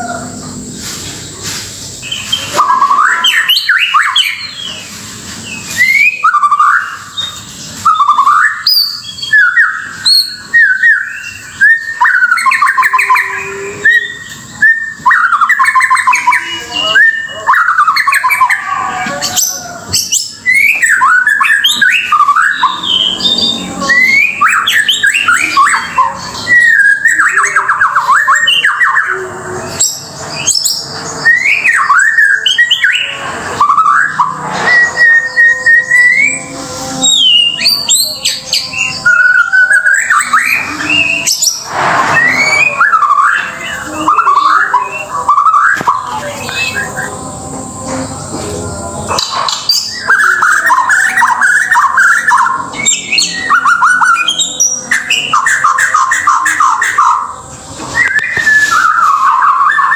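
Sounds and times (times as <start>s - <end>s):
bird singing whistles and trills: 1.1s - 47.5s, 49.0s - 59.9s.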